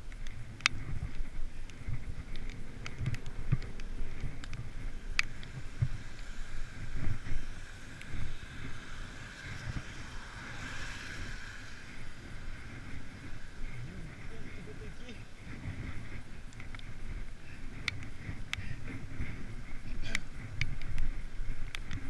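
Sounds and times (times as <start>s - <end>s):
wet road hiss: 0.0s - 22.0s
wind buffeting microphone: 0.0s - 22.0s.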